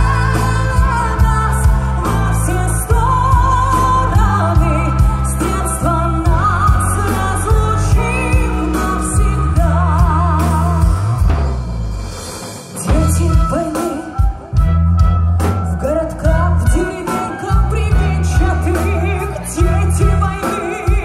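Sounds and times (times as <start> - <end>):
woman singing with vibrato: 0.0 - 11.2, 12.8 - 14.7, 15.6 - 21.0
wind band playing a slow ballad: 0.0 - 21.0.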